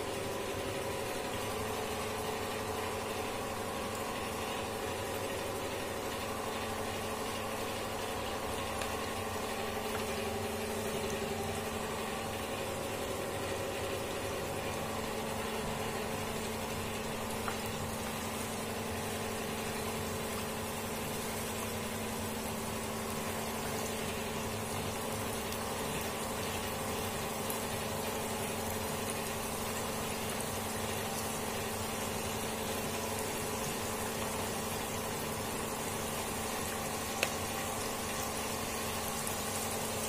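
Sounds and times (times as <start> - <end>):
oil sizzling and bubbling: 0.0 - 40.0.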